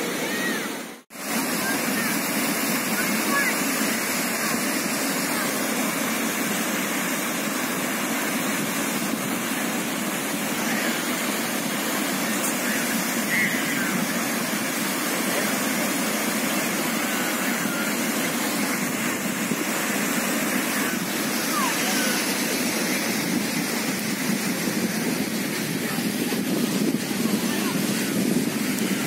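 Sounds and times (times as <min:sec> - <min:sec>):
sea surf breaking on shore: 0:00.0 - 0:29.0.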